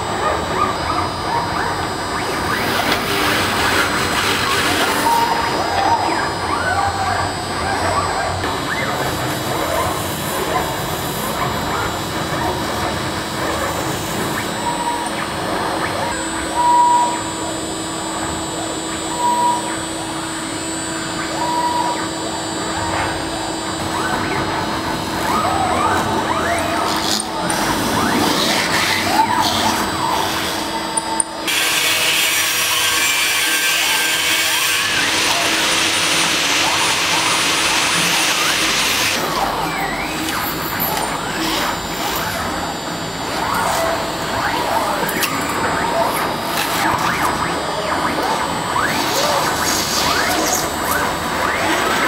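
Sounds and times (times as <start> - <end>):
router carving wood: 0.0 - 52.0.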